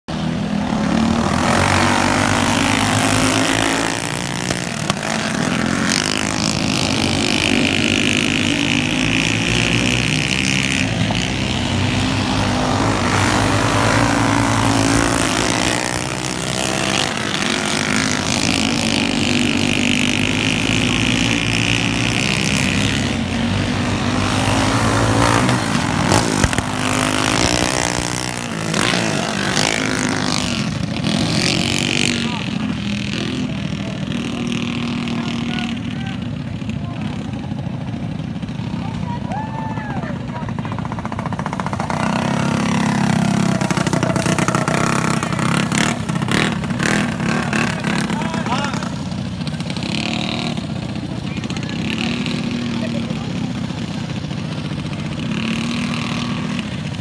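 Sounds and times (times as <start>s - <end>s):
go-kart engines racing past: 0.1s - 57.0s.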